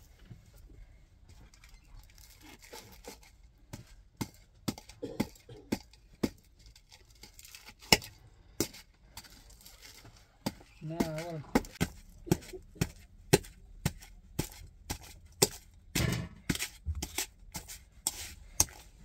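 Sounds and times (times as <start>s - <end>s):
garlic scraping and crunching: 2.1s - 19.0s.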